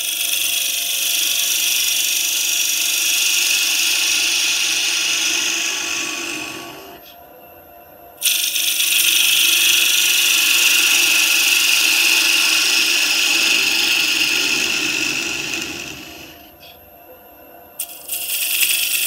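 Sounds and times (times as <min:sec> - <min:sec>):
lathe gouge cutting wood hiss: 0:00.0 - 0:07.1, 0:08.2 - 0:16.5, 0:17.8 - 0:19.0
wood lathe humming: 0:00.0 - 0:07.1, 0:08.2 - 0:16.8, 0:17.8 - 0:19.0.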